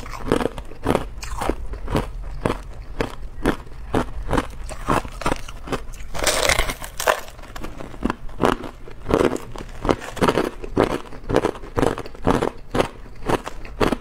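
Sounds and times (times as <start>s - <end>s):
ice crunching while chewed: 0.0s - 14.0s.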